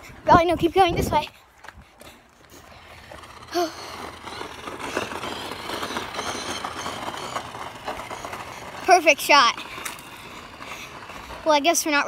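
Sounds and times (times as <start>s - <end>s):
scooter rolling on asphalt: 0.0s - 12.0s.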